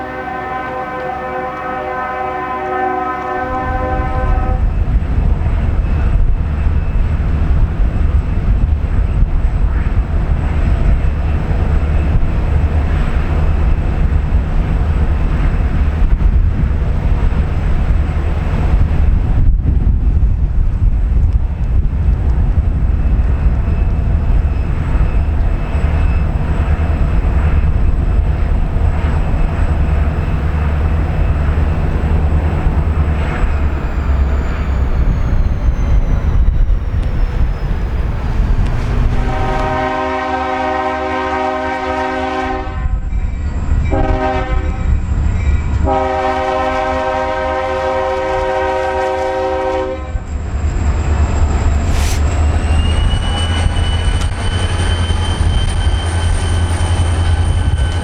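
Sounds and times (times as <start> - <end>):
diesel locomotive rumbling: 0.0 - 58.0.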